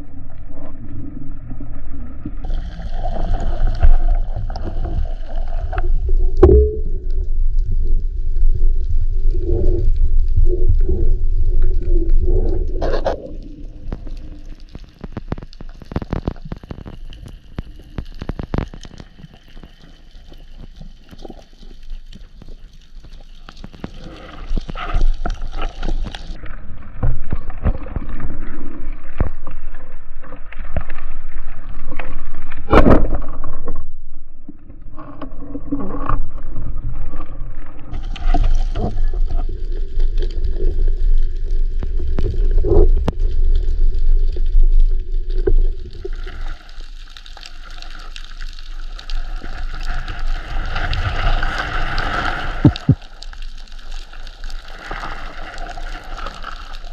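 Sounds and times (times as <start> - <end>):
water rushing and bubbling underwater: 0.0 - 56.9.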